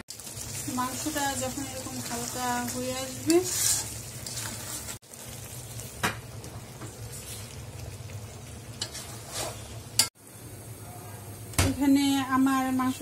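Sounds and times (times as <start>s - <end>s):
meat sizzling and bubbling in oil: 0.0s - 13.0s.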